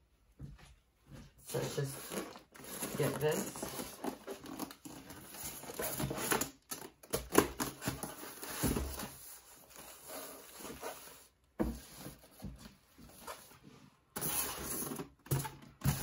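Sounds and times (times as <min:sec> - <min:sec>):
foam and plastic rustling: 0:01.4 - 0:16.0.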